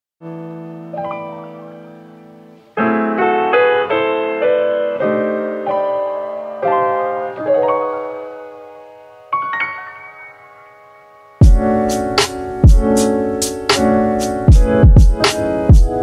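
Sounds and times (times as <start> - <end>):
piano music: 0.2 - 16.0.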